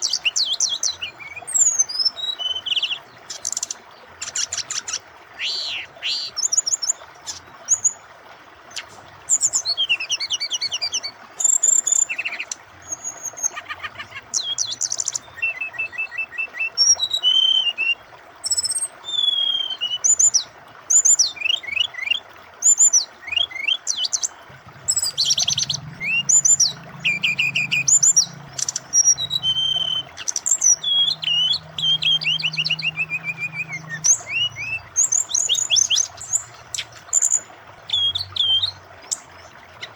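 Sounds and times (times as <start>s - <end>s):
bird song of whistles and trills: 0.0s - 8.0s, 8.7s - 39.9s
flowing water rushing: 0.0s - 39.9s.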